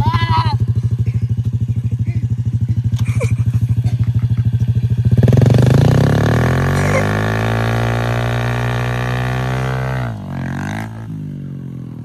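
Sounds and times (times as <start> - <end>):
dirt bike engine idling: 0.0 - 12.0
engine drone rising in pitch: 0.4 - 12.0.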